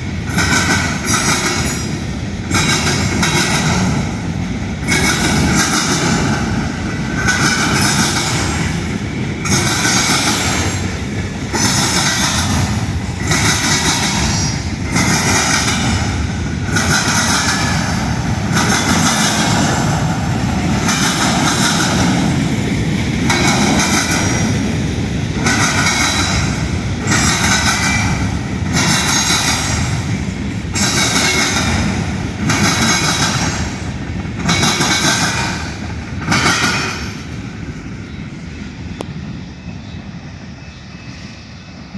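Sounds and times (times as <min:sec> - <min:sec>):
train cars rolling past: 0:00.0 - 0:41.9.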